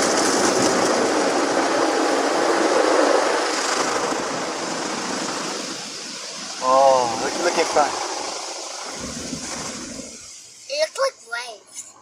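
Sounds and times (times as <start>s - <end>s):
car wash machinery: 0.0s - 11.1s
car wash water spray: 0.0s - 11.9s.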